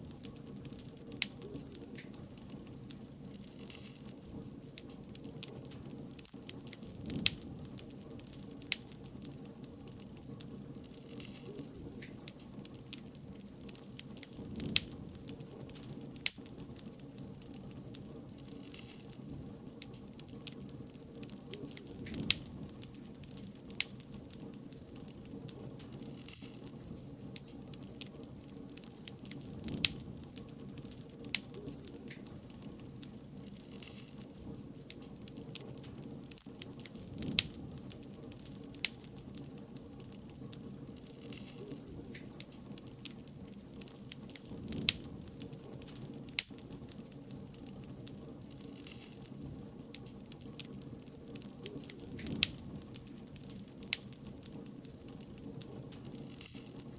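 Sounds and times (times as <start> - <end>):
bonfire crackling and popping: 0.0 - 56.9
low rush of burning: 0.0 - 56.9.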